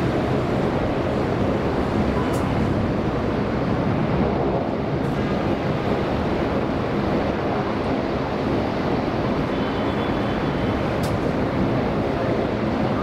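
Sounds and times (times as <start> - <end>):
distant jet engines roaring: 0.0 - 13.0.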